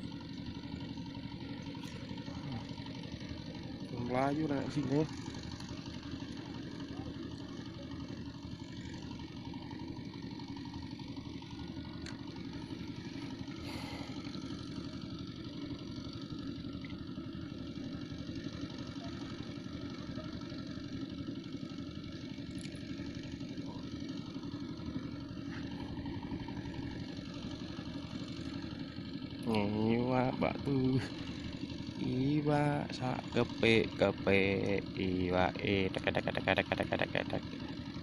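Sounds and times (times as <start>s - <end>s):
engine rumbling: 0.0s - 38.0s.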